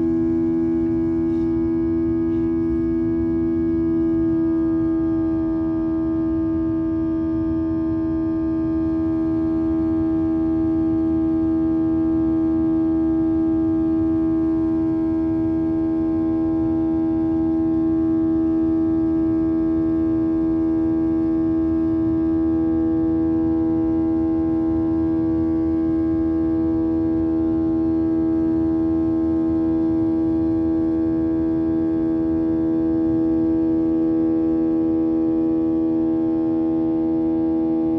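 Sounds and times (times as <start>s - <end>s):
jet engine drone in cabin: 0.0s - 37.9s.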